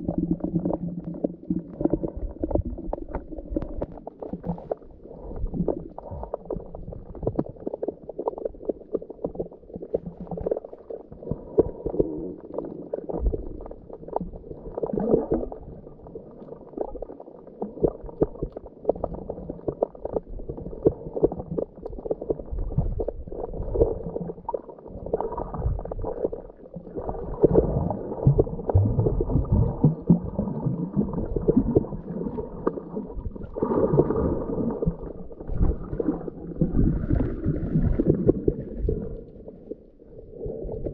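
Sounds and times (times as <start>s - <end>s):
diver's bubbles gurgling underwater: 0.0s - 40.9s
low underwater rumble: 0.0s - 40.9s.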